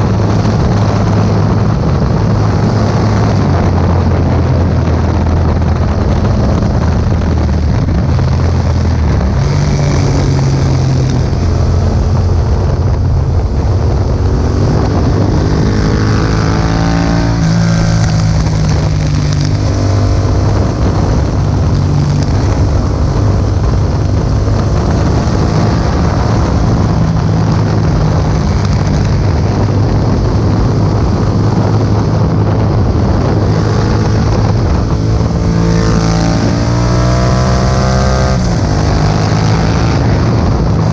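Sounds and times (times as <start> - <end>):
motorcycle engine revving: 0.0 - 40.9
wind noise on microphone: 0.0 - 40.9.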